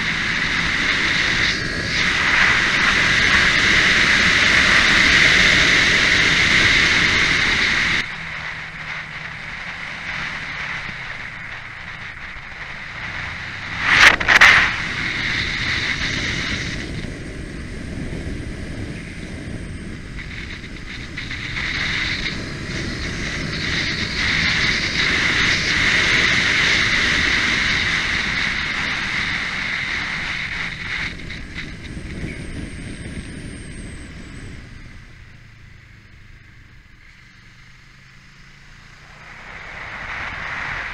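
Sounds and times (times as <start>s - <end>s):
wind on microphone: 0.0s - 35.1s, 38.9s - 40.9s
motorcycle engine: 0.0s - 40.9s.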